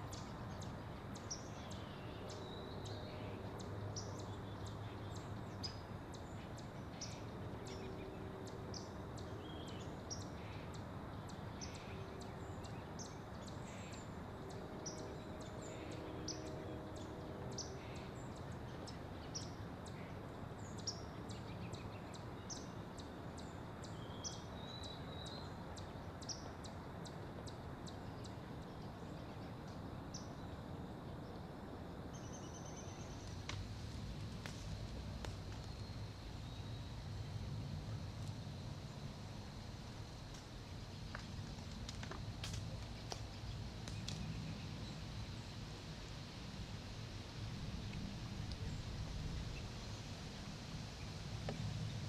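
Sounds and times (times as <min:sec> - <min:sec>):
low background hiss: 0:00.0 - 0:52.0.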